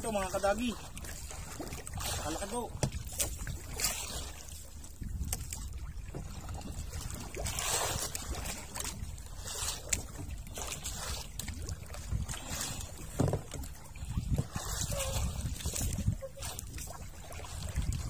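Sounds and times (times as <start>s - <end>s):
water sloshing against boat: 0.0s - 18.0s
wind rumble on microphone: 0.8s - 18.0s.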